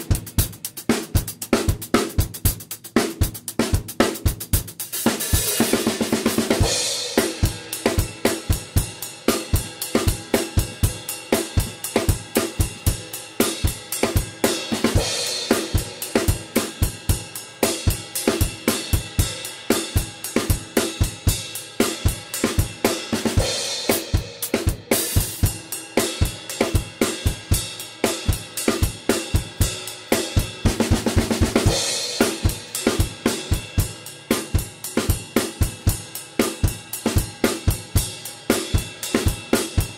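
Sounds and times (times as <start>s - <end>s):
acoustic drum kit beat: 0.0s - 39.9s.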